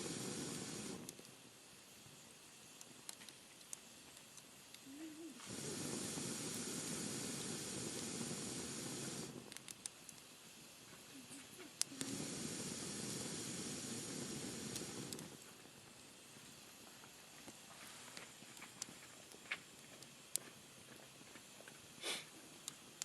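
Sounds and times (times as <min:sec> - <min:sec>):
loud breathy hissing rush: 0:00.0 - 0:03.2, 0:03.8 - 0:20.8, 0:21.8 - 0:23.0
wood fire crackling: 0:00.0 - 0:23.0.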